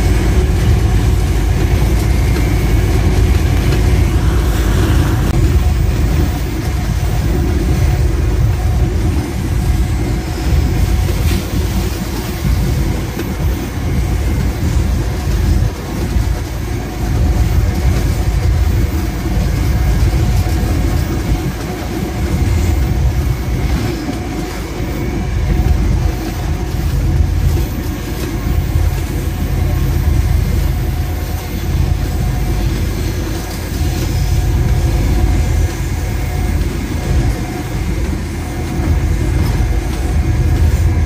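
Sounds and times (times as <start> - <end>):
locomotive engine rumble: 0.0 - 41.0
wheels on rails: 0.0 - 41.0.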